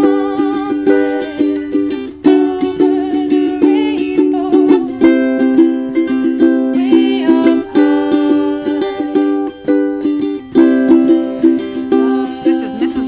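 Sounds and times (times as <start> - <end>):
strummed ukulele tune: 0.0 - 13.0.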